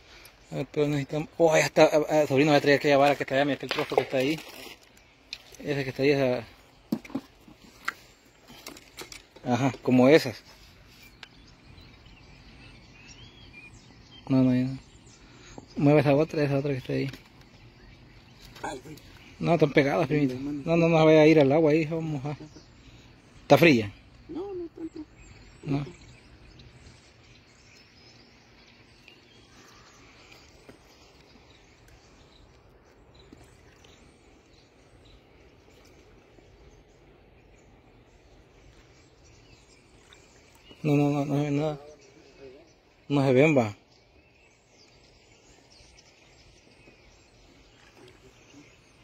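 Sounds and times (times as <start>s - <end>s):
faint birds or insects chirping: 0.0s - 49.0s
flowing water hiss: 0.0s - 49.0s.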